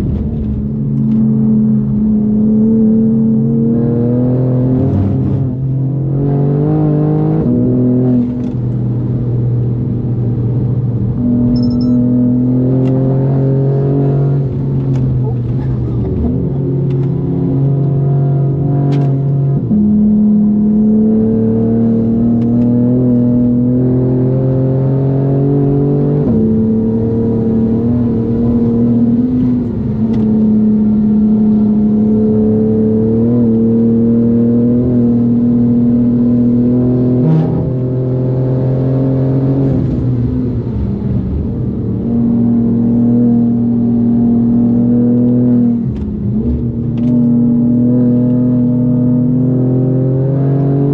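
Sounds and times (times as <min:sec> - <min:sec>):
car engine under hard driving: 0:00.0 - 0:50.9.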